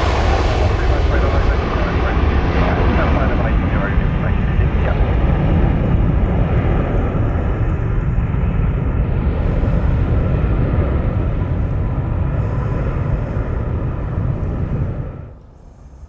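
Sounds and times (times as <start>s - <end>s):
jet airliner engines rumbling: 0.0s - 16.0s.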